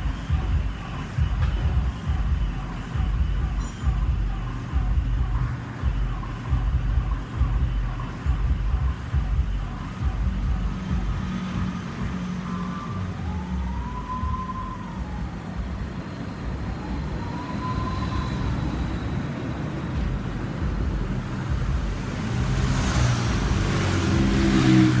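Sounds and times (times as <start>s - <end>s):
emergency siren wailing: 0.0s - 25.0s
low vehicle rumble: 0.0s - 25.0s
rushing noise: 0.0s - 25.0s.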